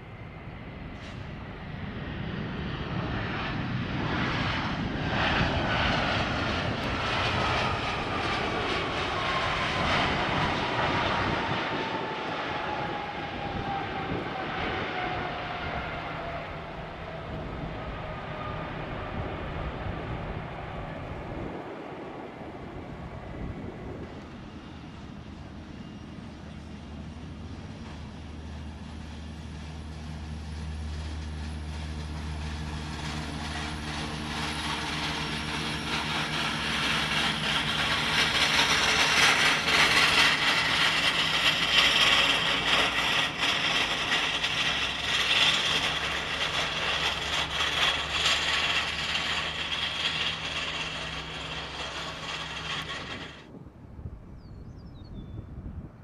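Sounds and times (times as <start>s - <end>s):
jet engines roaring: 0.0s - 54.2s.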